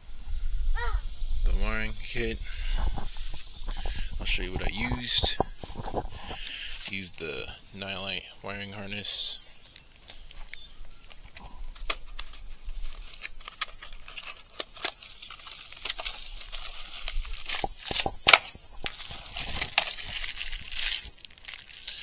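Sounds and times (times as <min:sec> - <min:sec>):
packaging rustling and crinkling: 0:01.0 - 0:07.4, 0:09.5 - 0:22.0.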